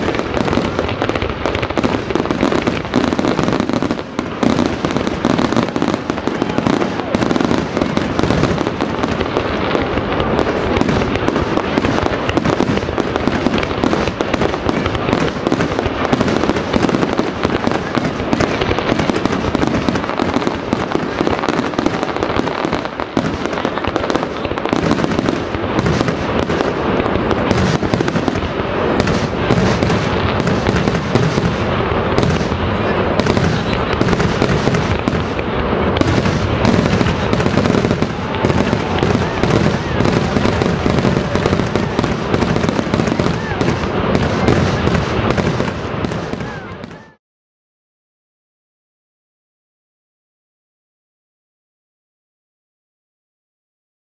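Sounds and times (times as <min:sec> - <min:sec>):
fireworks barrage of bangs: 0:00.0 - 0:47.2.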